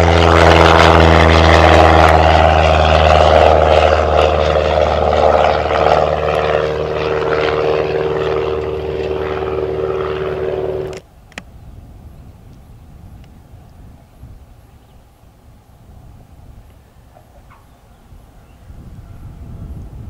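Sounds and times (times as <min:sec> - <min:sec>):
airplane engine and propeller drone: 0:00.0 - 0:20.0.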